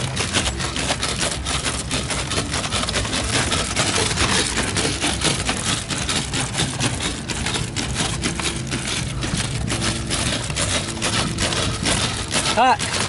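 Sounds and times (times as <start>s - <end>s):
rattle and crunch over hard ground: 0.0s - 13.0s.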